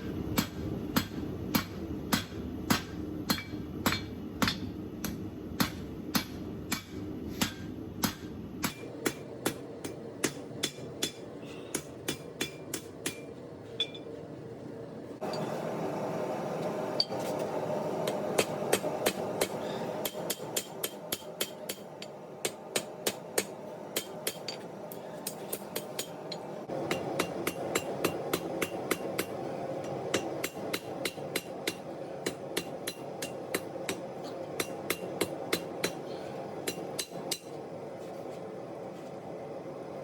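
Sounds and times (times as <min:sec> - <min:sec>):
steady hum: 0:00.0 - 0:40.0
hammer striking steel: 0:00.3 - 0:14.1, 0:18.0 - 0:24.6, 0:25.2 - 0:37.6.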